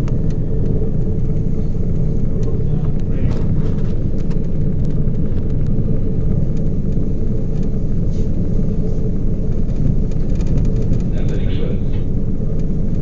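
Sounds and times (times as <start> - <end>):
faint constant hum: 0.0 - 13.0
ship engine rumble: 0.0 - 13.0.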